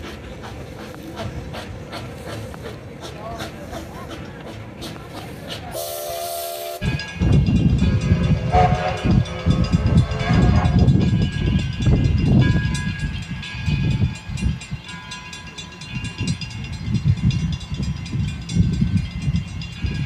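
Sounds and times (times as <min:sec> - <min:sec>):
distant train rumble: 0:00.0 - 0:20.0.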